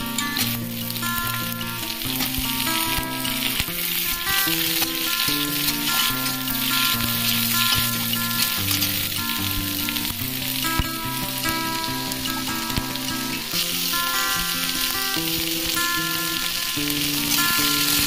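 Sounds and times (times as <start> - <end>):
vegetables sizzling in pan: 0.0 - 18.0.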